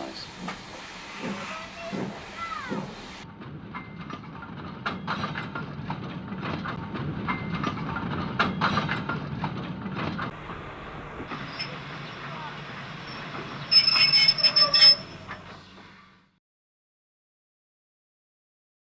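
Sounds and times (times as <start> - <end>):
wheels clicking over track: 0.0 - 16.2
train rumbling on rails: 0.0 - 16.4.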